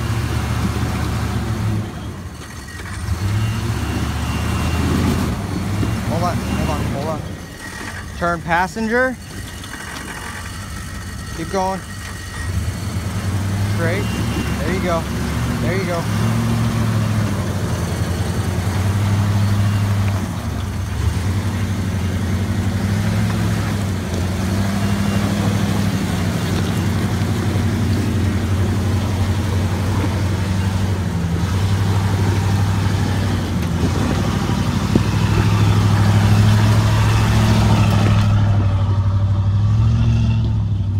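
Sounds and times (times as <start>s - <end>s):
truck engine revving under load: 0.0s - 40.9s.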